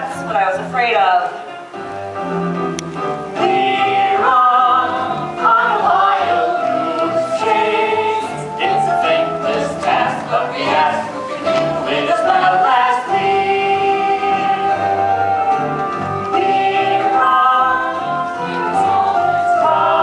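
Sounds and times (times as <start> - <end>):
instrumental accompaniment with bass: 0.0 - 20.0
chorus singing: 3.1 - 20.0.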